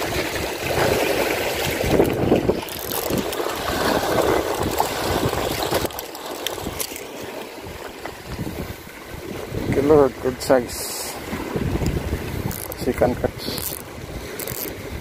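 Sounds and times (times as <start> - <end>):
wind buffeting microphone: 0.0 - 5.9, 7.6 - 15.0
sea water splashing on rocks: 0.0 - 15.0.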